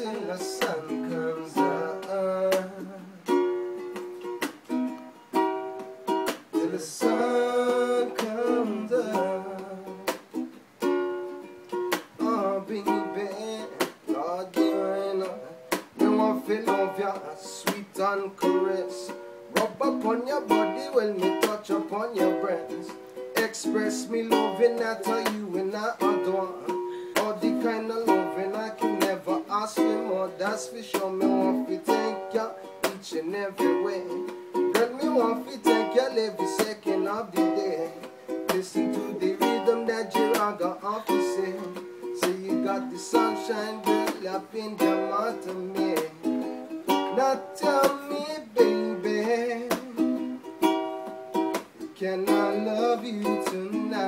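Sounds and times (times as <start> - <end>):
ukulele strumming and picking: 0.0 - 54.0.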